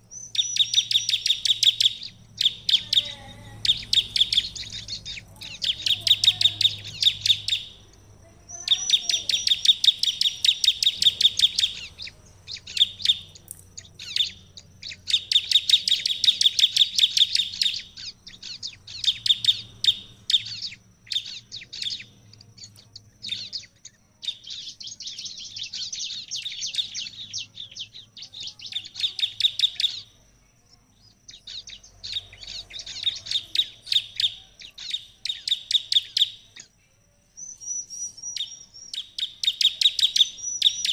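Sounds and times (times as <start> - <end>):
bird singing rattling trills: 0.0 - 40.9.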